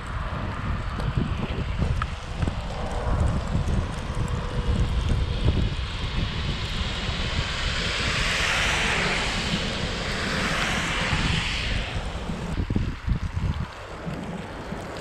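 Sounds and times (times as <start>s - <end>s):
wind buffeting microphone: 0.0s - 15.0s
car tyres hissing on wet road: 1.3s - 15.0s.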